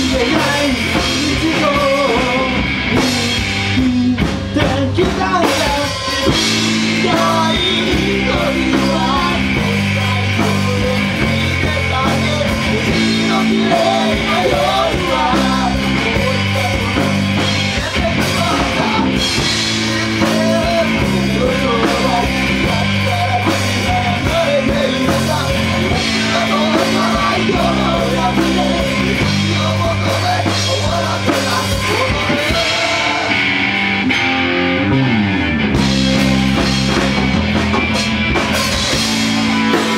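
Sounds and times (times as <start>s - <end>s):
person singing: 0.0s - 33.5s
bass guitar: 0.0s - 39.9s
drum kit: 0.0s - 39.9s
electric guitar: 0.0s - 39.9s.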